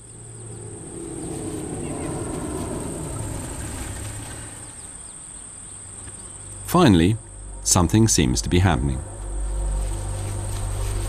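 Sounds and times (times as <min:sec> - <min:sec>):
insects chirring: 0:00.0 - 0:11.0
low rumble: 0:00.0 - 0:11.0.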